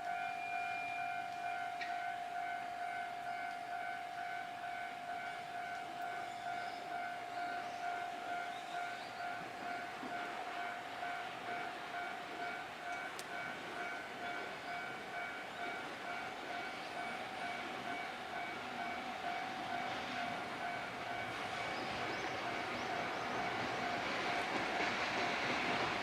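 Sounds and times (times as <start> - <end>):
level crossing warning bell: 0.0 - 25.8
train on rails: 0.0 - 26.0.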